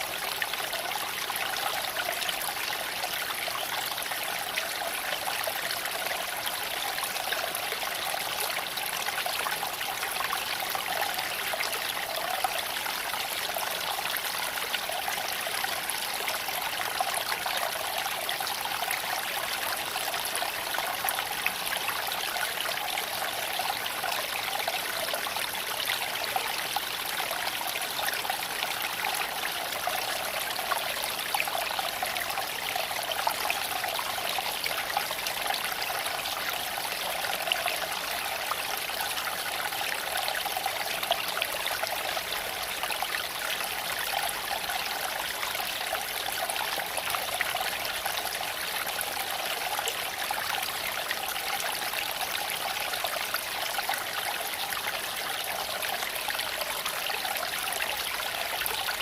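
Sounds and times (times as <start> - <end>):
creek water trickling over stones: 0.0 - 59.0.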